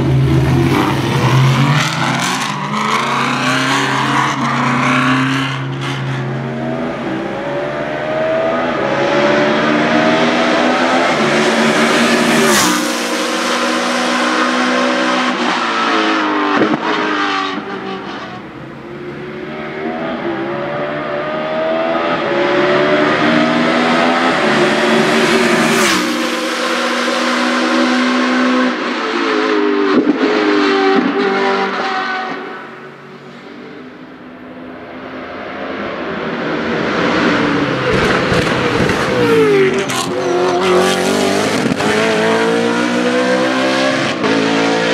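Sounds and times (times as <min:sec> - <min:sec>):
race car engine accelerating: 0:00.0 - 0:18.2, 0:19.1 - 0:32.5, 0:35.7 - 0:44.9.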